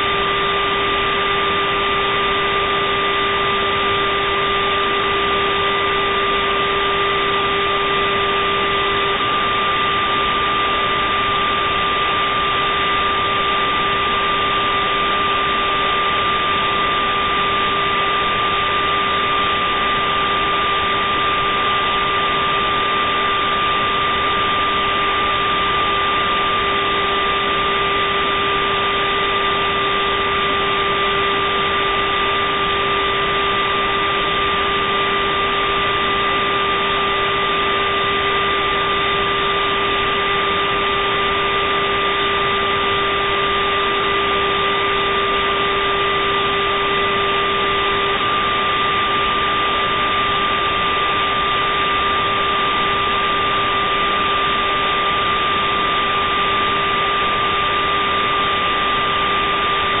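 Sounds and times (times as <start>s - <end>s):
electrical hum: 0.0s - 60.0s
high-pitched whines: 0.0s - 60.0s.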